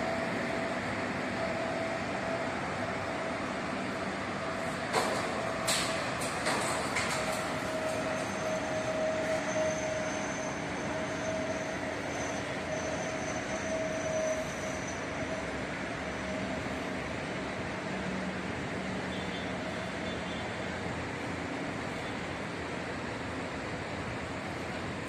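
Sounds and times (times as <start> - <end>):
construction machinery drone: 0.0 - 25.0.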